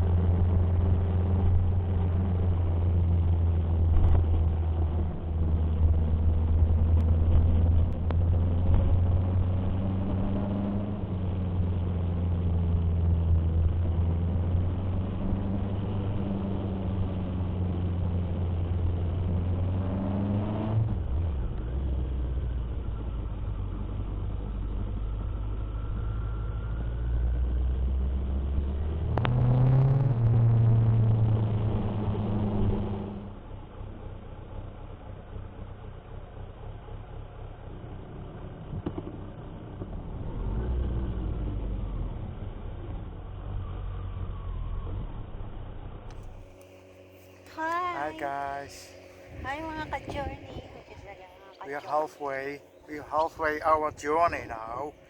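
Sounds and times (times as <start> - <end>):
motorcycle engine running: 0.0 - 19.9, 27.8 - 55.0.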